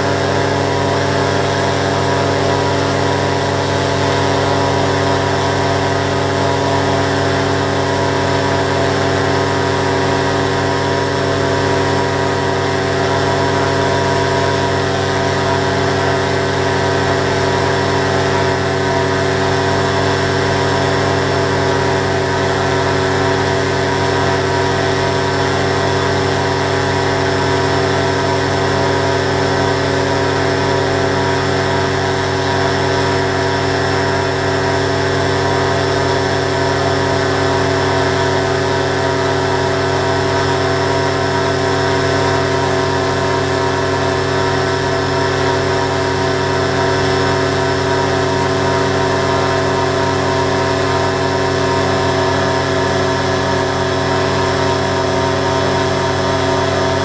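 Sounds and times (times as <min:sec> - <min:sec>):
ultralight engine and propeller running: 0:00.0 - 0:57.0.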